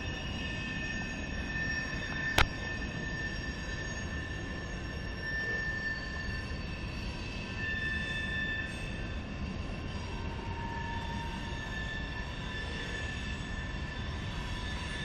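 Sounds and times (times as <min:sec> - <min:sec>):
high-pitched wheel squeal: 0:00.0 - 0:15.0
rumble of train wheels on rail: 0:00.0 - 0:15.0.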